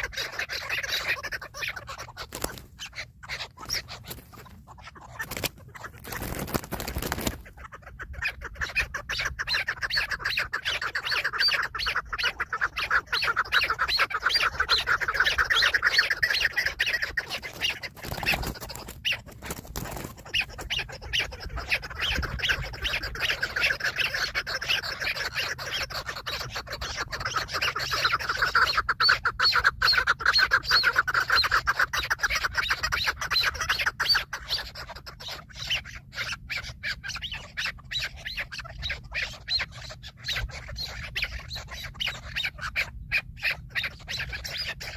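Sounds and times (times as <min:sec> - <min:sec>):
partridge chattering call: 0:00.0 - 0:44.9.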